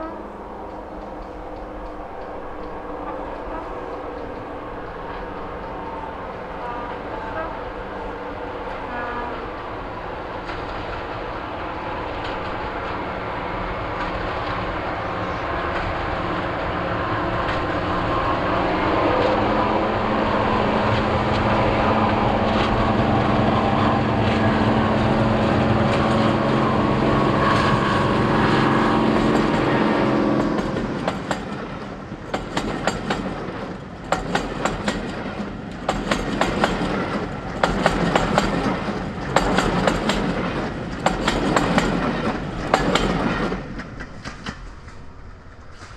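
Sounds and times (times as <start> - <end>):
diesel locomotive engine drone: 0.0 - 45.9
train wheels clacking over rail joints: 0.6 - 45.9.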